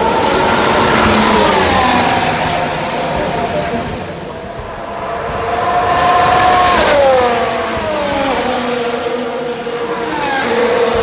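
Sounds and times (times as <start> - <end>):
racing car engine at high revs: 0.0 - 11.0.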